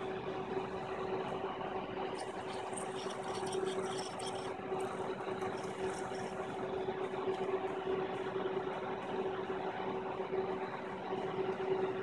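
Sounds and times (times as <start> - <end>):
machine hum with held tone: 0.0 - 12.0.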